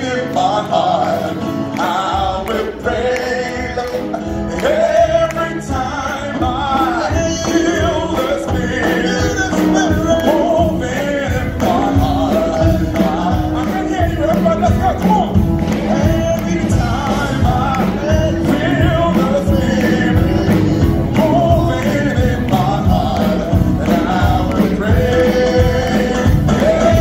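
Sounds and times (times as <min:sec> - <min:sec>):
instrumental backing: 0:00.0 - 0:27.0
men singing gospel song: 0:00.0 - 0:27.0.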